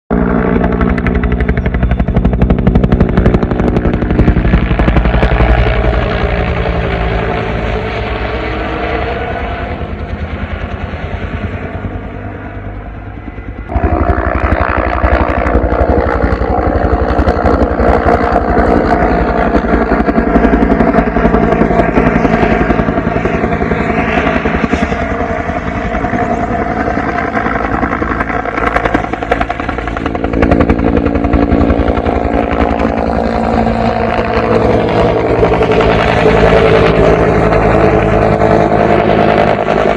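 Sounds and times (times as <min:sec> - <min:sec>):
helicopter rotor chop and turbine: 0:00.1 - 0:39.9.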